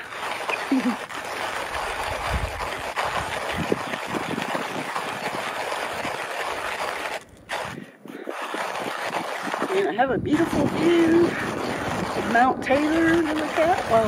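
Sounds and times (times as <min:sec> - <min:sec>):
manual coffee grinder grinding: 0:00.0 - 0:14.0.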